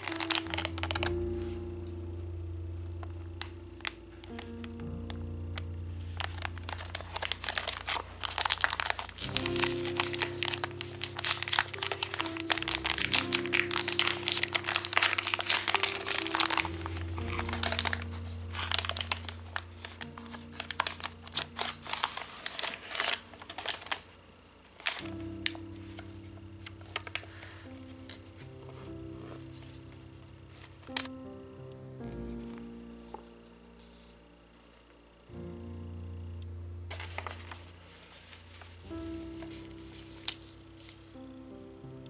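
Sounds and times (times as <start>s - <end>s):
plastic bag crinkling: 0.0s - 1.7s, 2.7s - 31.2s, 36.9s - 41.3s
soft background music: 0.0s - 42.0s.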